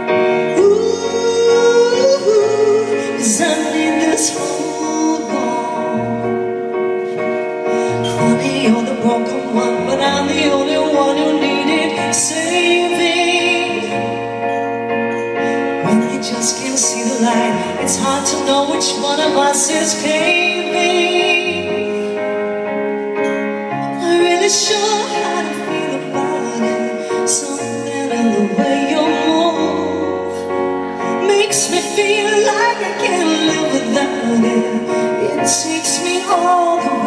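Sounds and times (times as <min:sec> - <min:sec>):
piano chords: 0:00.0 - 0:37.0
woman singing a ballad: 0:00.0 - 0:37.0.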